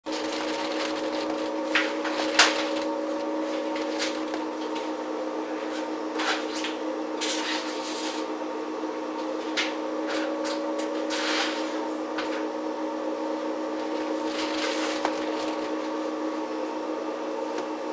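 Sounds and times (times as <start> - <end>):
electrical equipment hum: 0.0 - 17.9.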